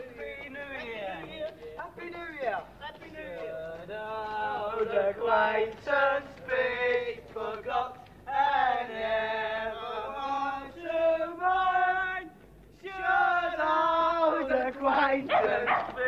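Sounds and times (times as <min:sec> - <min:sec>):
voices singing or chanting: 0:00.0 - 0:16.0.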